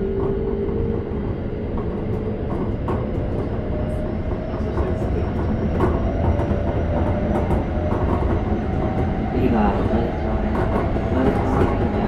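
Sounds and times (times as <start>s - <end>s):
train wheel-on-rail rumble: 0.0s - 12.0s.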